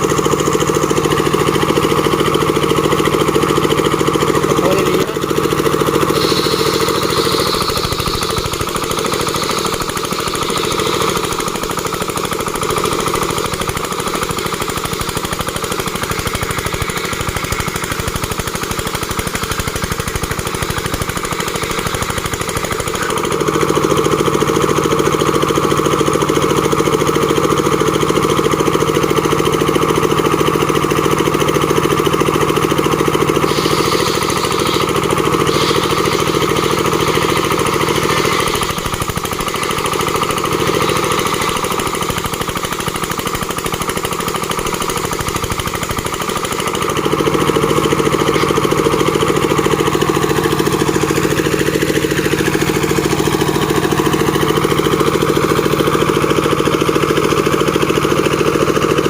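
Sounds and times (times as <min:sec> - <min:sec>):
machine engine running: 0:00.0 - 0:59.0.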